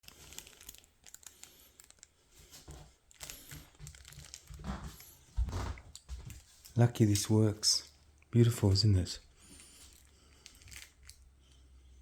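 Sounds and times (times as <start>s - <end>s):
crinkly rustling: 0.0s - 11.6s.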